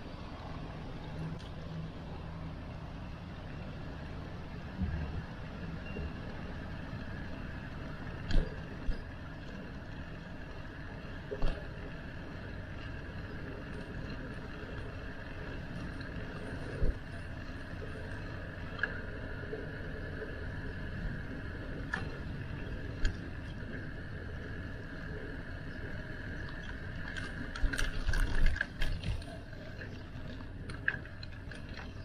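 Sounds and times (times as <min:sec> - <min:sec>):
bicycle road noise: 0:00.0 - 0:32.0.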